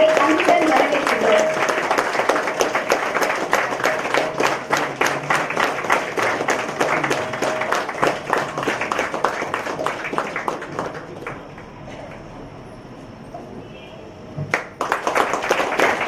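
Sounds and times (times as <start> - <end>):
audience applauding: 0.0 - 12.3, 14.5 - 16.0.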